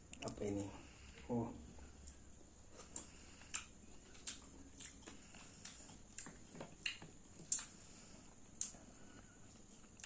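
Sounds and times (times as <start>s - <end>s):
chewing: 1.9s - 10.0s.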